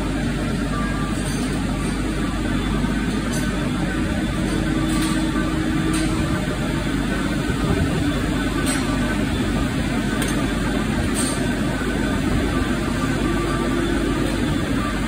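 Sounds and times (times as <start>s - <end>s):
feed mixer wagon drone: 0.0s - 15.0s.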